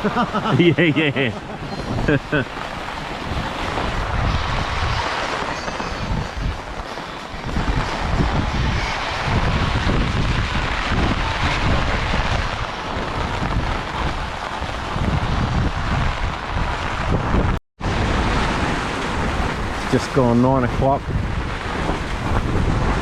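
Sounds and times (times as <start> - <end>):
heavy rain: 0.0 - 23.0
storm wind buffeting microphone: 0.0 - 23.0.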